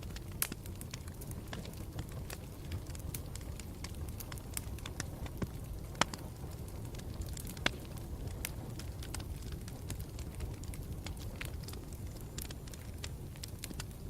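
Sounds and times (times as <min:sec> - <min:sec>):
campfire rumble: 0:00.0 - 0:14.0
fire crackles and pops: 0:00.0 - 0:14.0.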